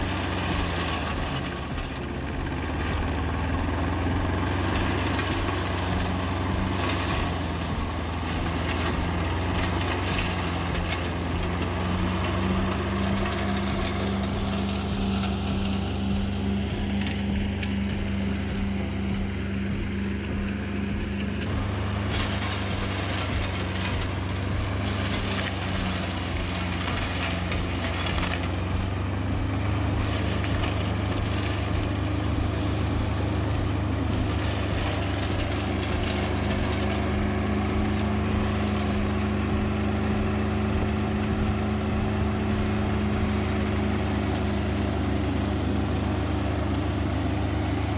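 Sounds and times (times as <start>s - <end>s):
diesel engine running under load: 0.0s - 47.9s
flail rotor chopping grass: 0.0s - 47.9s.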